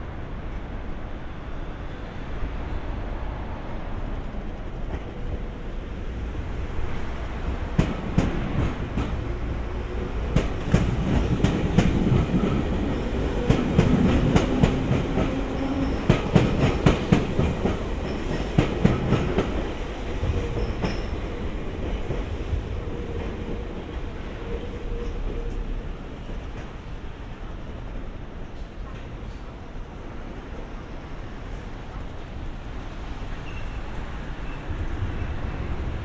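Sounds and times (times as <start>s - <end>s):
train rumble: 0.0s - 36.0s.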